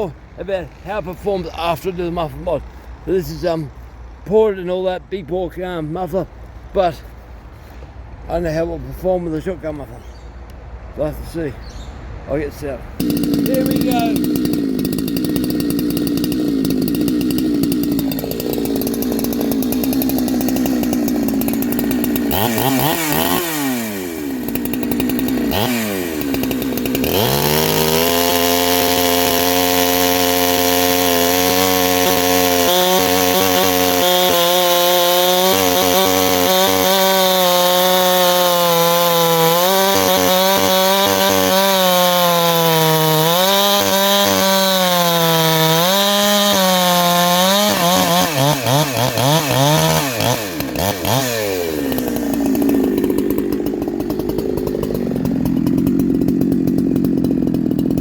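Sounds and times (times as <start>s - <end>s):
chainsaw cutting wood: 0.0s - 8.7s, 12.8s - 58.0s.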